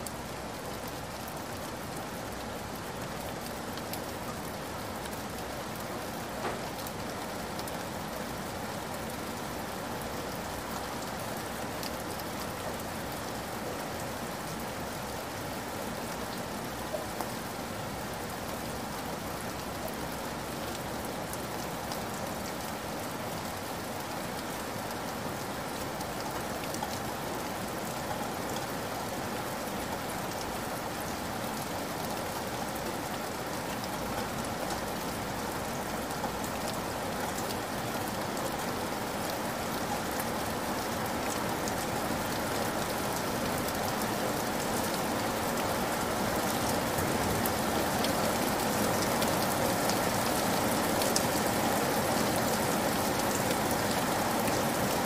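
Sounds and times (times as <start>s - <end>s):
heavy rain on wet ground: 0.0s - 55.0s.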